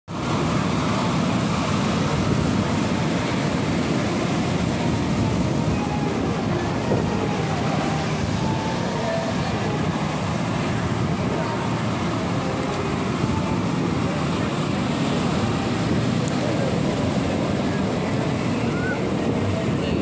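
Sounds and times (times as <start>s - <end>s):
sea waves breaking on beach: 0.1s - 20.0s
wind rumbling on microphone: 0.1s - 20.0s.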